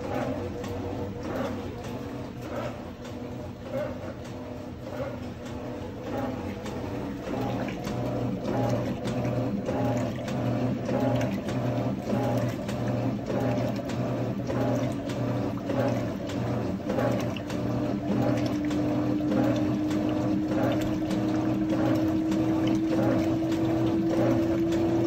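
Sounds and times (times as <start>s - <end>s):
washing machine motor humming: 0.0s - 25.0s
water sloshing in tub: 0.0s - 25.0s.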